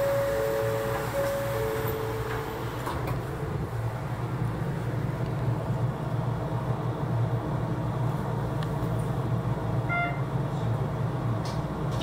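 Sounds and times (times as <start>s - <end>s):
train equipment low hum: 0.0s - 12.0s.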